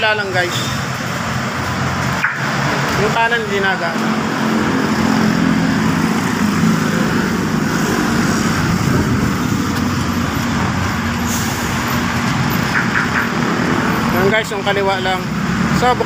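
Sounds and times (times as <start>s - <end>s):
road traffic noise: 0.0s - 16.0s
vehicle engine running: 0.5s - 16.0s.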